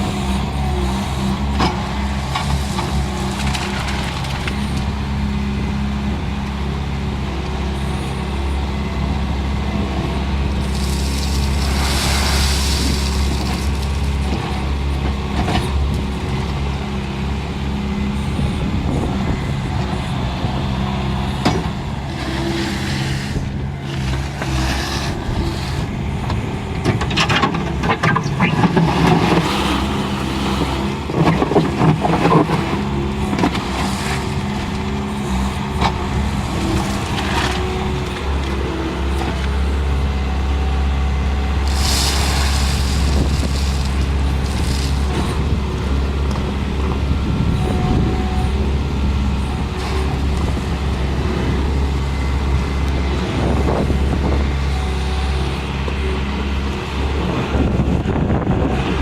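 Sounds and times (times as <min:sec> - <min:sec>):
skid steer diesel engine running: 0:00.0 - 0:59.0.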